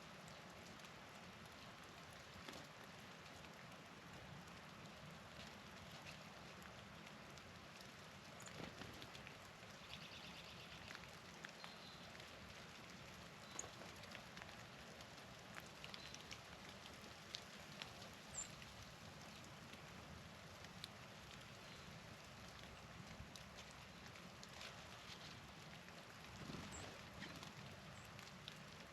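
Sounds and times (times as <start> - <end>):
light ticks and drips: 0.0 - 28.9
soft steady hiss: 0.0 - 28.9.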